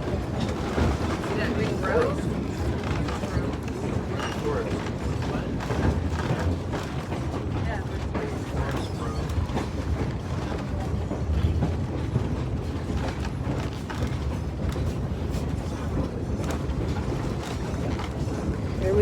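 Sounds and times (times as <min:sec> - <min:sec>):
clicks and creaks from train car: 0:00.0 - 0:19.0
train wheels rumbling on rails: 0:00.0 - 0:19.0.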